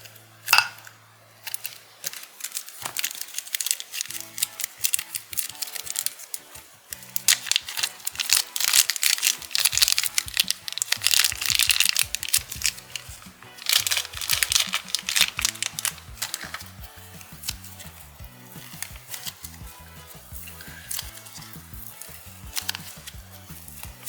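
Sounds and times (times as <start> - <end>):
background music: 0.0 - 24.0
slime crackling and popping: 0.4 - 24.0.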